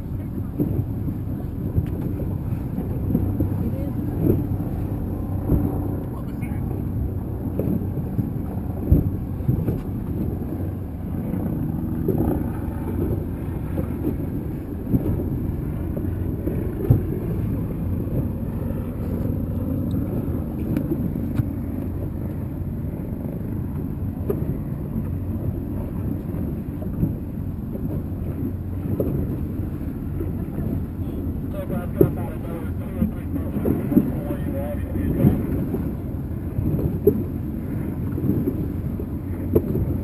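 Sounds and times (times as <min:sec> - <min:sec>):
motorboat engine humming: 0:00.0 - 0:40.0.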